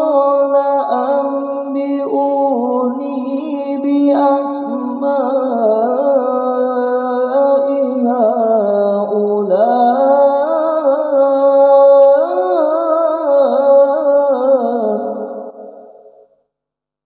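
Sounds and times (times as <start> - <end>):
man chanting melodically: 0.0 - 15.8.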